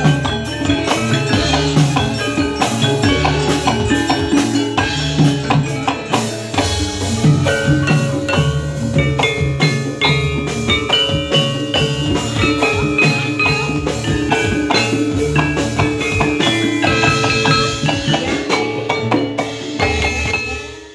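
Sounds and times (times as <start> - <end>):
hand drums: 0.0 - 20.9
metallophones struck with mallets: 0.0 - 20.9.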